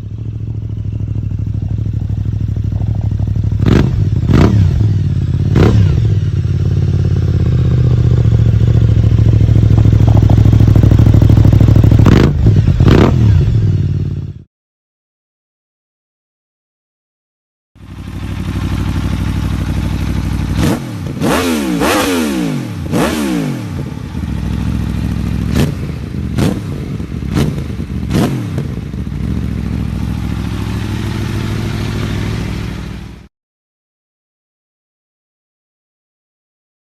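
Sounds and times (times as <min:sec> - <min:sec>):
motorcycle engine idling and revving: 0:00.0 - 0:14.5, 0:17.8 - 0:33.3.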